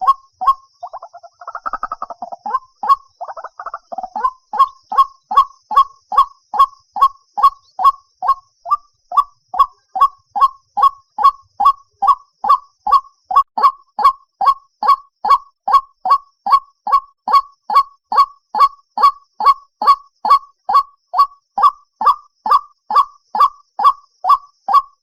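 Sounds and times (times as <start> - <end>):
waterhen calling kwaak: 0.0 - 25.0.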